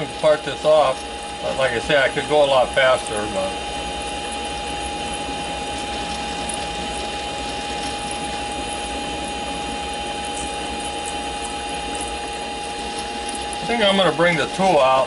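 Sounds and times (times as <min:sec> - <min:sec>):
lathe whining: 0:00.0 - 0:15.0.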